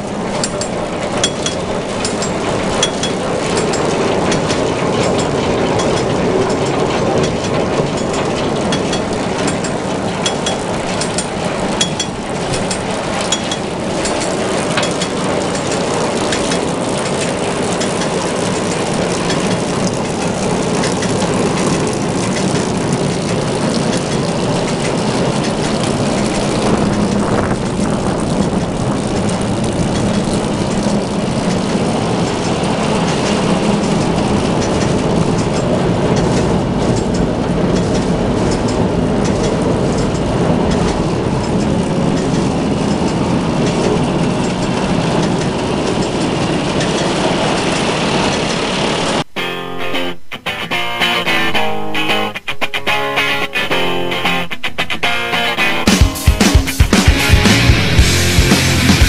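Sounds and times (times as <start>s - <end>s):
manure spreader clattering: 0.0s - 49.3s
tractor engine running: 0.0s - 49.4s, 50.0s - 59.0s.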